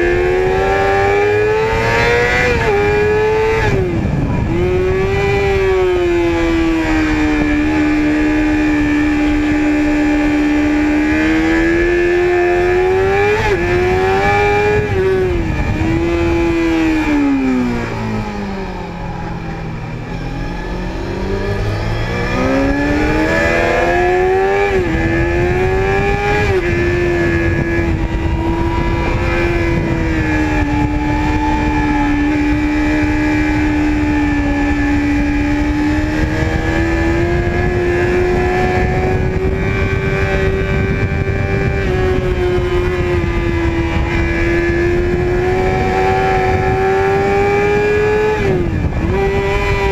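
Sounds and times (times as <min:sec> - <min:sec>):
motorcycle engine revving: 0:00.0 - 0:49.9
wind rushing: 0:00.0 - 0:49.9.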